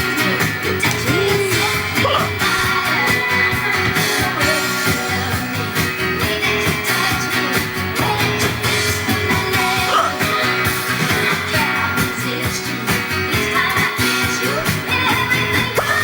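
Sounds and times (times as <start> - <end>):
rock and roll song: 0.0 - 16.0.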